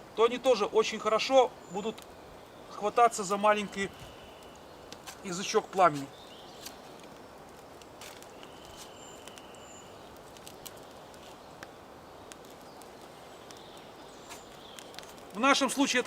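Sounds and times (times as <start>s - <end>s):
campfire crackling and popping: 0.0s - 16.0s
woodland ambience: 0.0s - 16.0s
bird chirps: 0.8s - 7.1s, 8.2s - 16.0s.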